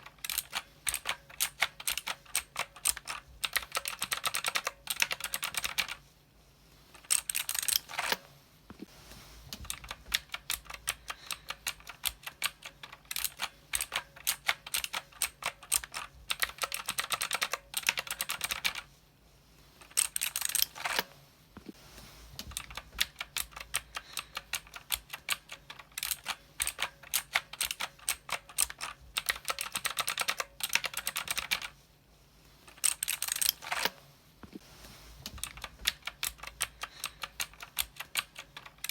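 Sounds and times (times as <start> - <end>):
mechanical keyboard typing: 0.0 - 6.0, 7.0 - 8.2, 9.6 - 18.9, 19.8 - 21.0, 22.4 - 31.8, 32.7 - 34.0, 35.3 - 38.9.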